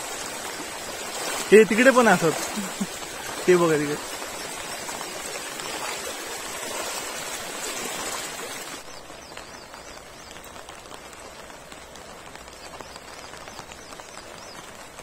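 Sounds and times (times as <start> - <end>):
floodwater flowing fast: 0.0 - 15.0
rain: 0.0 - 15.0.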